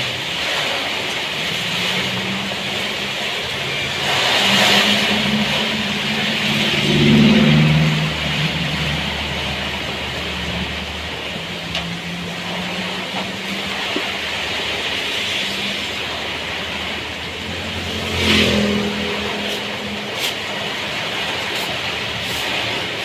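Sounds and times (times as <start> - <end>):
heavy rain hiss: 0.0 - 23.0
vehicle engine running: 0.0 - 23.0.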